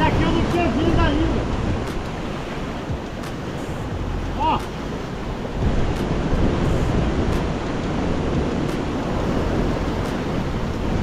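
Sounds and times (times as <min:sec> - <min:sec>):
surf washing on rocky shore: 0:00.0 - 0:11.0
wind rumbling on microphone: 0:00.0 - 0:11.0.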